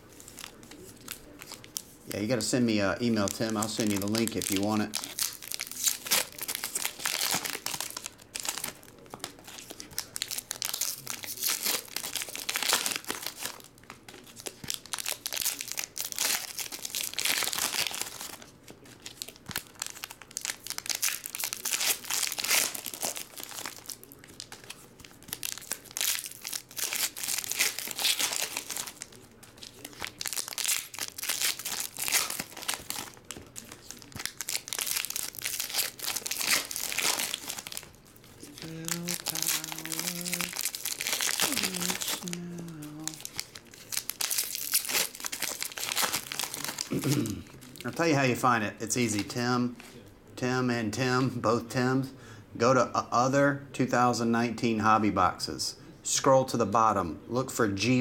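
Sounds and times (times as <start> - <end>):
foil wrappers crinkling: 0.0 - 48.1.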